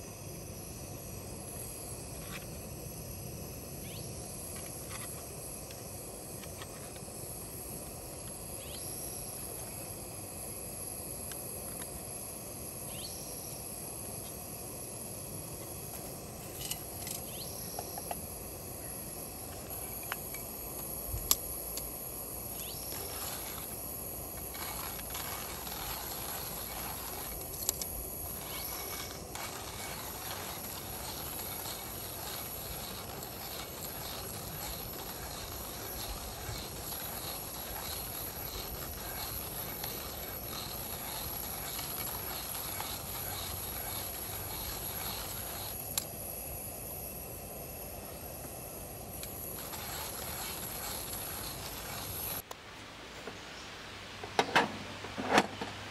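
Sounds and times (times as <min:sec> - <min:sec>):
steady hiss with high tone: 0:00.0 - 0:55.9.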